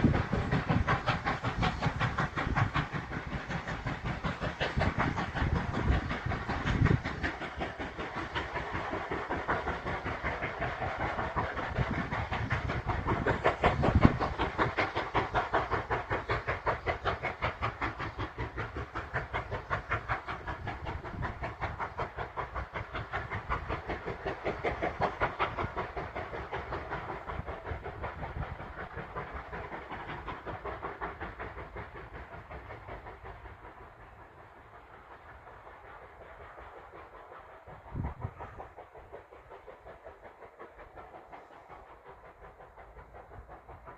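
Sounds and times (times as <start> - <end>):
rail noise: 0.0 - 43.9
steam hiss: 0.0 - 43.9
steam locomotive exhaust beats: 0.0 - 43.9.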